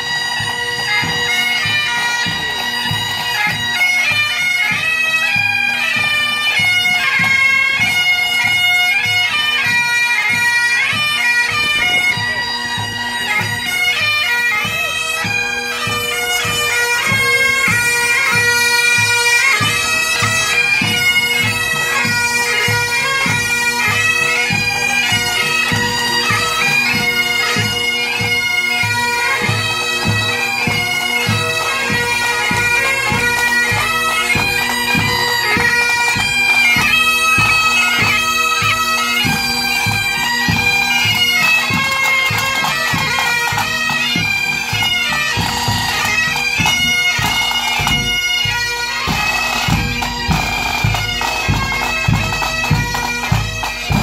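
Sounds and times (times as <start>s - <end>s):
bagpipes playing a march: 0.0s - 54.0s
drums beating steady rhythm: 0.0s - 54.0s.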